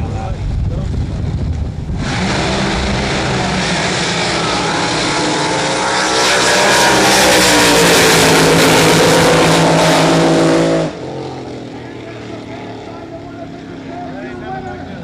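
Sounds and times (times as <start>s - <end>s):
boat engine running loud: 0.0s - 15.0s.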